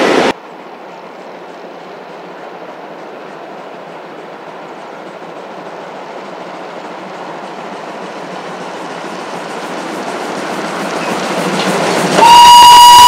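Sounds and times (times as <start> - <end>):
steam locomotive running: 0.0 - 13.0.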